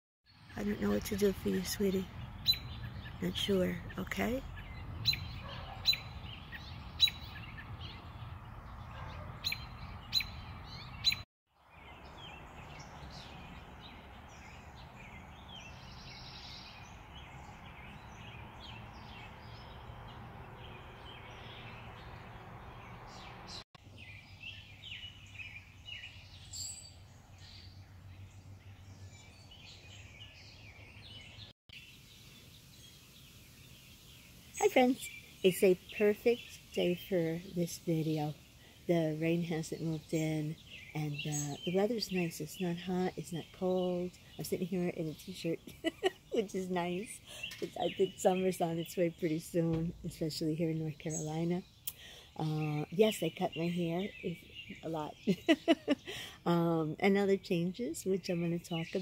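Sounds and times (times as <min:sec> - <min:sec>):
high bird chirps: 0:00.3 - 0:56.5
birdsong: 0:00.3 - 0:59.0.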